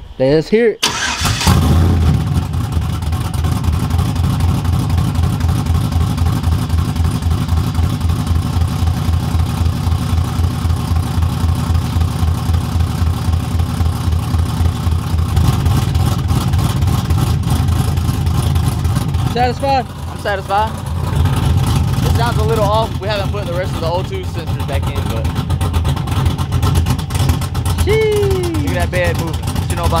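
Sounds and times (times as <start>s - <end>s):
engine revving: 0.8s - 11.7s, 12.4s - 30.0s
loud engine idling unevenly: 0.9s - 30.0s.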